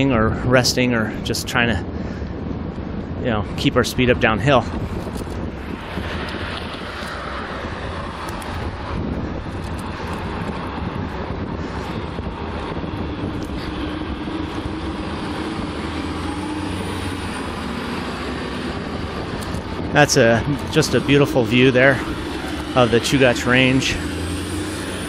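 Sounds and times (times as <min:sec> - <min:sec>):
traffic and road noise: 0:00.0 - 0:25.0
faint engine hum: 0:03.9 - 0:25.0.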